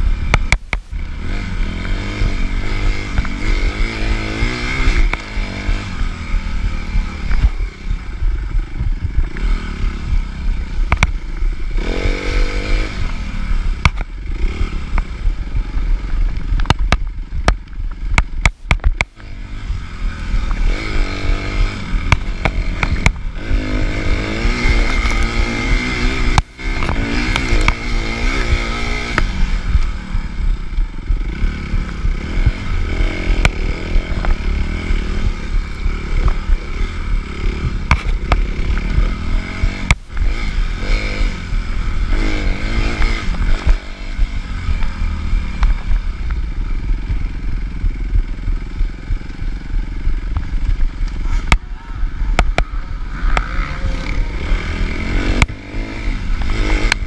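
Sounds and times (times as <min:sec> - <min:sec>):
dirt bike engine running hard: 0:00.0 - 0:57.0.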